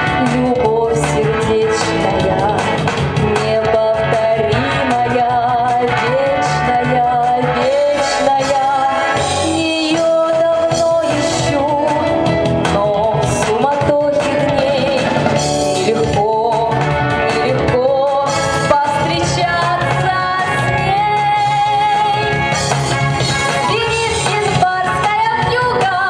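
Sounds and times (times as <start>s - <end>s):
woman singing into microphone: 0.0s - 22.6s, 23.4s - 26.0s
instrumental accompaniment: 0.0s - 26.0s.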